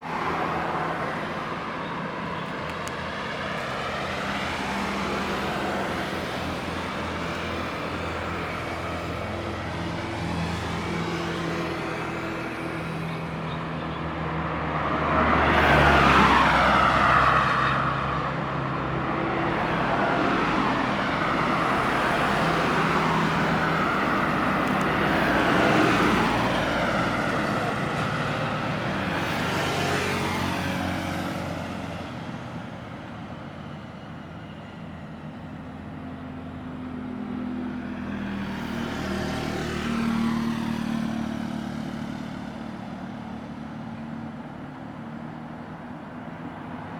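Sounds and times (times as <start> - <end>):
background traffic rumble: 0.0 - 46.9
vehicles passing: 0.0 - 46.9.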